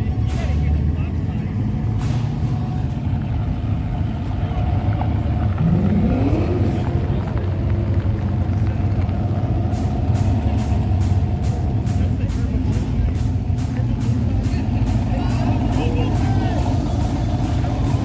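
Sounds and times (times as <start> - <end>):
car engine revving: 0.0 - 18.0
car engine rumbling: 0.0 - 18.0.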